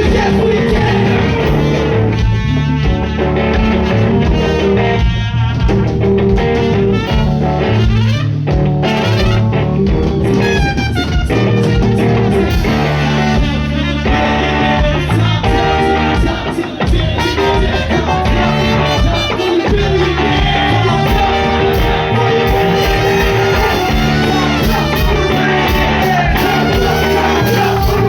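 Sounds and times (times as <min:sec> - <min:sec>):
live band with guitar: 0:00.0 - 0:28.0.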